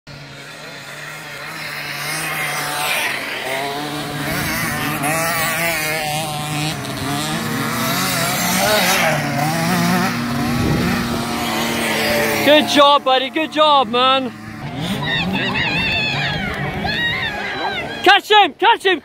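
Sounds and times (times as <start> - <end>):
two-stroke motocross bikes racing: 0.1 - 19.0.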